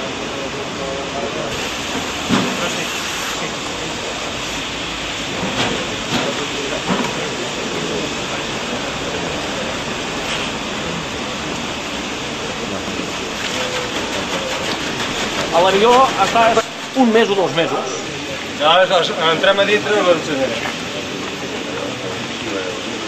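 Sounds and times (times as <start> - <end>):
pressurized water jet hissing: 0.0 - 21.6.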